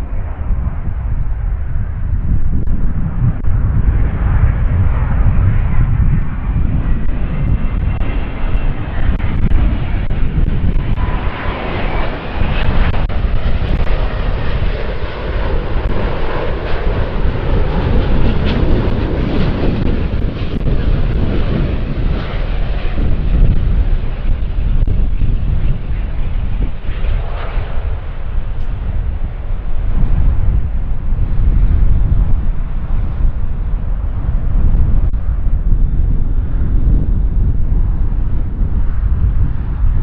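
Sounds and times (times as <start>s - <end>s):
high engine whine: 0.0s - 39.7s
jet airliner engines: 0.0s - 40.0s
wind buffeting microphone: 0.0s - 40.0s.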